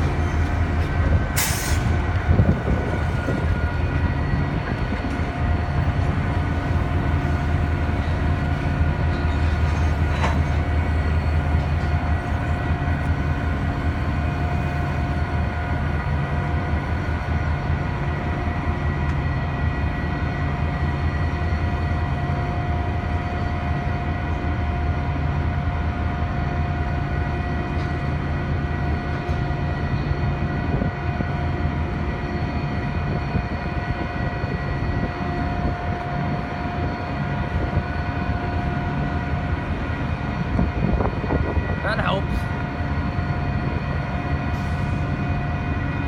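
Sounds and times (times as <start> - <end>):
freight train low rumble: 0.0 - 46.0.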